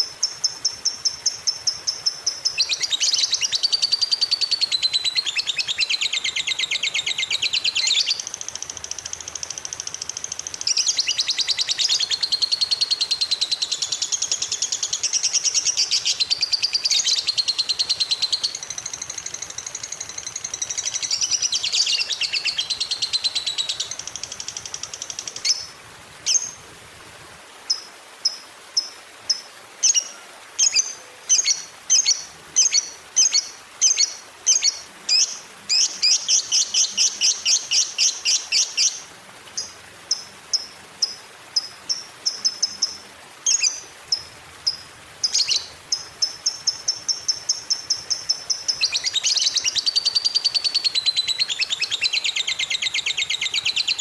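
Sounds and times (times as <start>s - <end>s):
lovebird chattering trills: 0.2s - 25.7s, 27.7s - 39.0s, 39.6s - 54.0s.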